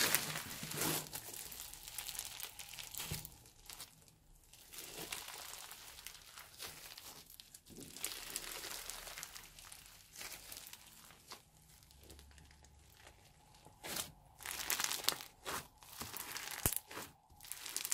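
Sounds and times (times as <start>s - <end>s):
crunchy slime being squeezed: 0.0s - 17.9s.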